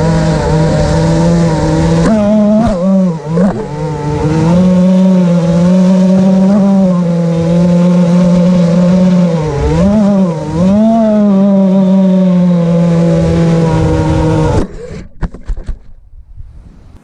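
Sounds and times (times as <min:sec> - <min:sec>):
quadcopter motors whining: 0:00.0 - 0:15.5.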